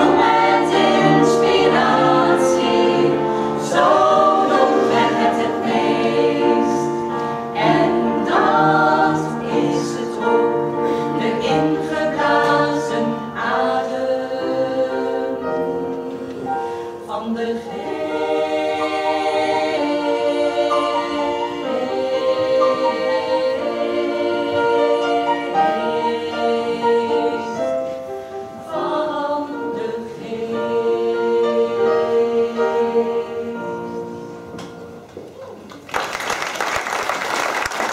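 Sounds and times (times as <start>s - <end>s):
women's choir singing: 0.0s - 35.0s.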